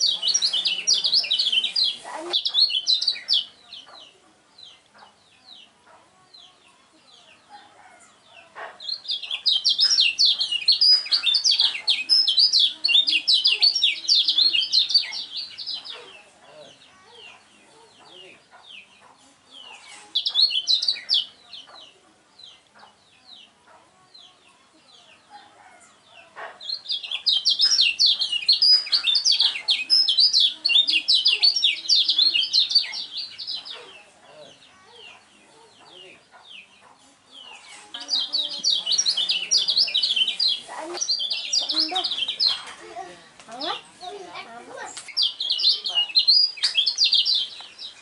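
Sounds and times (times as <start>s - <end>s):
bird singing high chirps and trills: 0.0s - 48.0s.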